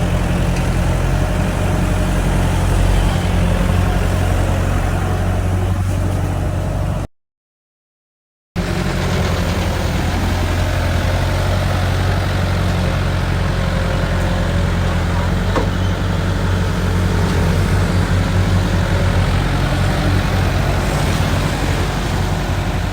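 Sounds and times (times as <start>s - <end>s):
diesel engine droning: 0.0s - 7.1s, 8.6s - 22.9s.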